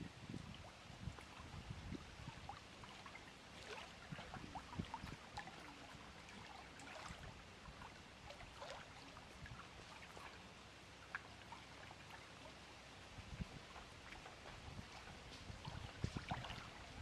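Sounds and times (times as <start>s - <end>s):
water lapping at shore: 0.0s - 17.0s
water trickling and plips: 0.0s - 17.0s.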